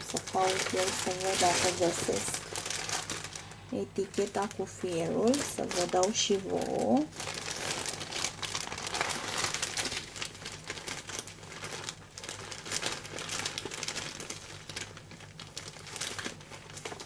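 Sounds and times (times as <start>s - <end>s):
rustling and crinkling by hand: 0.0s - 17.0s.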